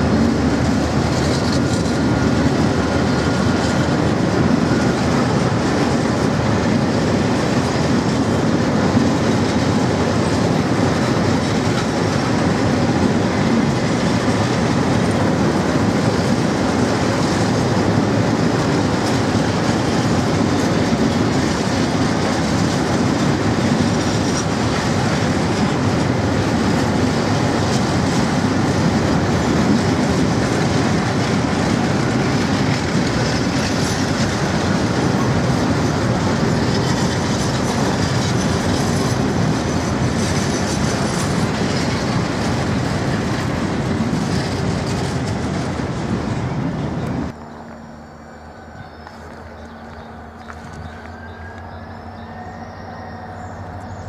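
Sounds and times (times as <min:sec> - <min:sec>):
train wheels clacking on rails: 0:00.0 - 0:47.8.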